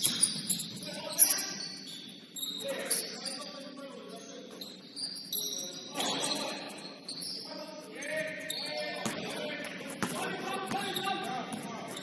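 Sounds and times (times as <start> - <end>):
shoes squeaking on gym floor: 0.0 - 9.2, 10.0 - 12.0.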